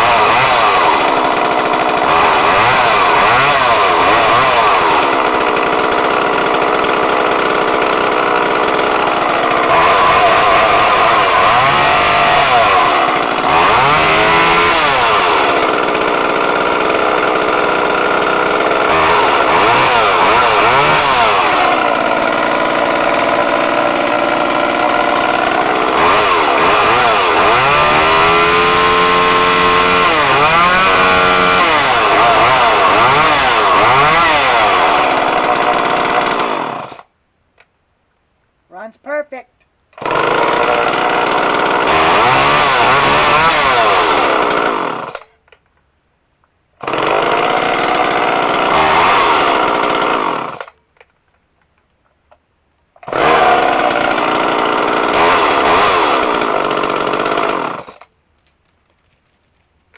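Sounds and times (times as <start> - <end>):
chainsaw revving: 0.0 - 37.0, 40.0 - 45.3, 46.8 - 50.8, 53.0 - 58.1.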